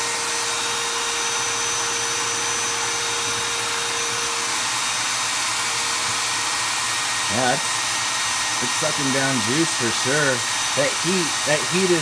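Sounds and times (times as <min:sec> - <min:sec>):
drill motor running: 0:00.0 - 0:12.0.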